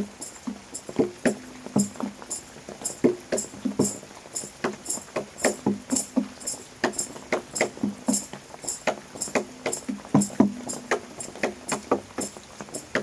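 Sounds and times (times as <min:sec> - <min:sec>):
percussive strikes: 0:00.0 - 0:12.0.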